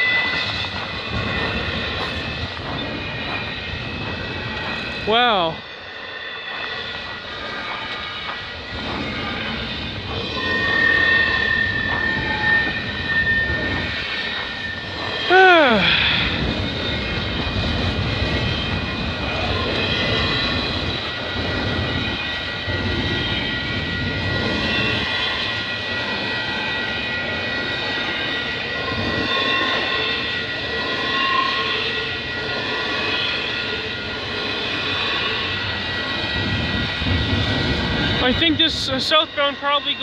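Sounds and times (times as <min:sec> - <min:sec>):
steady high whine: 0:00.0 - 0:40.0
steel wheels rumbling on rail: 0:00.0 - 0:40.0.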